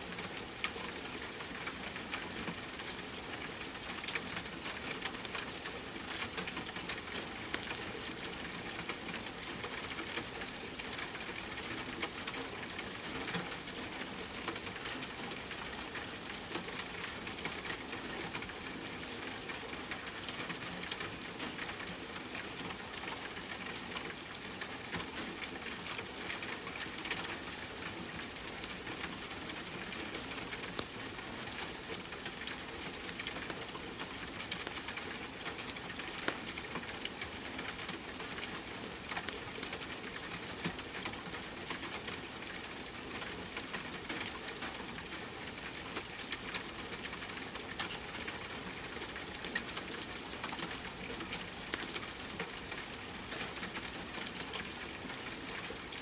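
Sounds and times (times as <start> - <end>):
scattered ticks and crackles: 0.0 - 56.0
steady rain: 0.0 - 56.0.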